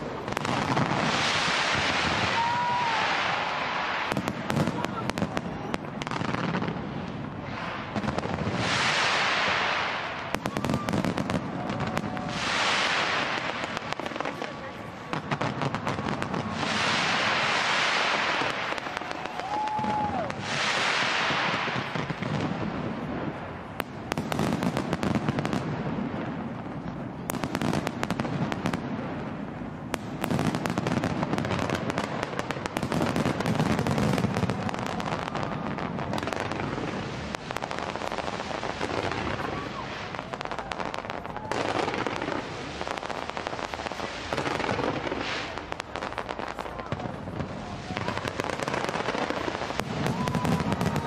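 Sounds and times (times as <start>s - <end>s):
fireworks bursting and crackling: 0.0s - 51.0s.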